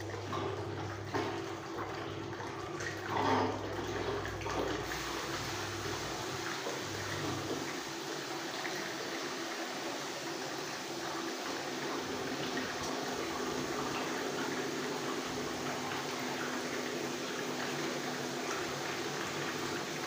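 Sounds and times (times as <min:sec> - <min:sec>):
water swirling in basin: 0:00.0 - 0:20.0.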